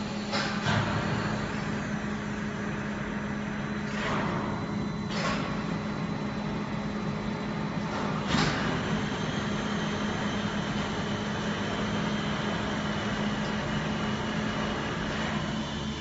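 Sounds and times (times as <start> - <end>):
test bench mechanical hum: 0.0 - 16.0.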